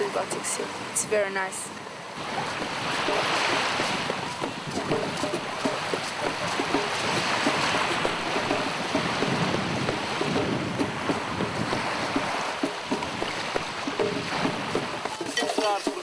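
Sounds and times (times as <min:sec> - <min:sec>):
waves washing onto shore: 0:00.0 - 0:16.0
wind buffeting microphone: 0:02.1 - 0:15.3.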